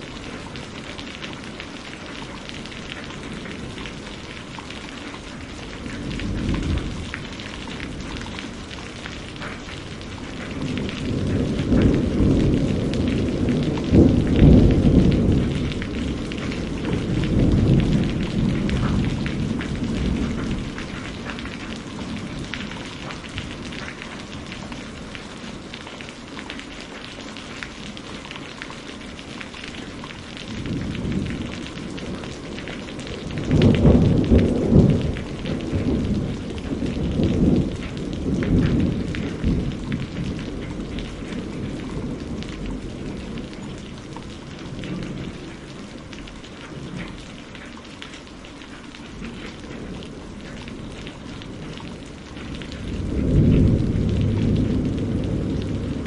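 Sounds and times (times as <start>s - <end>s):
steady rain: 0.0s - 56.0s
rolling thunder: 2.6s - 25.7s, 30.0s - 47.2s, 49.1s - 56.0s.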